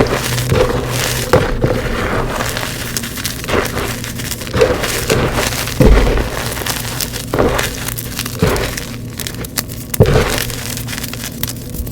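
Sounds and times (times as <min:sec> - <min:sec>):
chalk being crushed and crumbled: 0:00.0 - 0:11.9.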